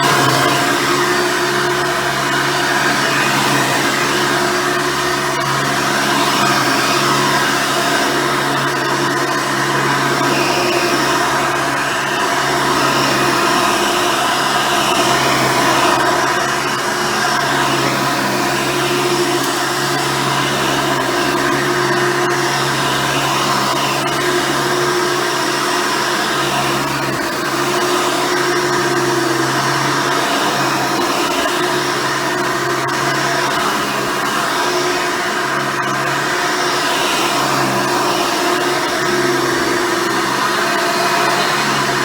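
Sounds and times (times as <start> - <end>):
vacuum cleaner motor hum and whine: 0.0 - 42.0.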